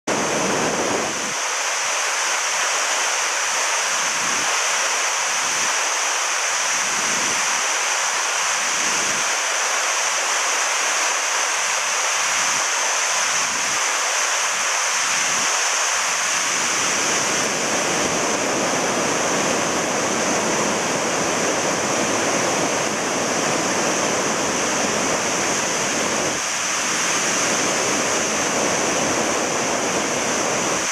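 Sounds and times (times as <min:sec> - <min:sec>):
white water rushing over boulders: 0:00.1 - 0:30.9.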